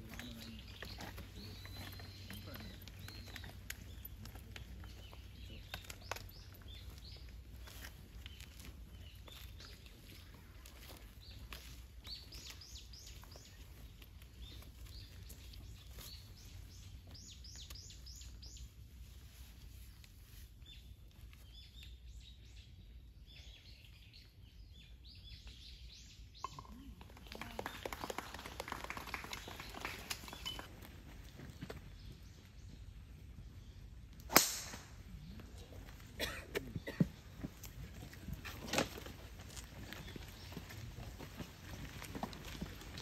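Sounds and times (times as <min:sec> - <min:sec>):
birds chirping: 0:00.0 - 0:18.9, 0:19.7 - 0:43.0.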